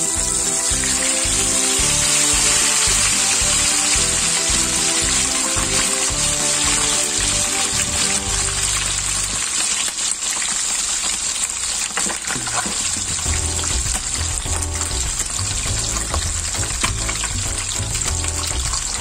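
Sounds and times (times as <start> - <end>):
background music: 0.0 - 9.6, 13.1 - 19.0
chicken sizzling in hot oil: 0.0 - 19.0.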